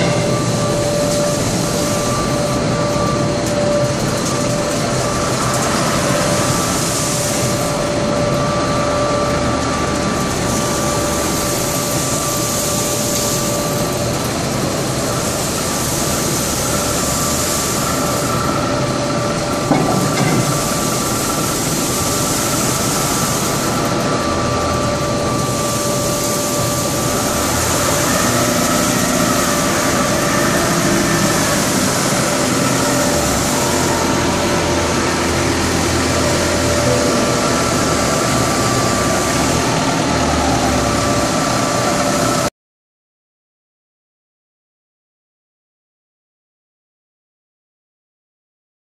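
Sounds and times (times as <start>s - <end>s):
industrial machinery drone: 0.0s - 42.5s.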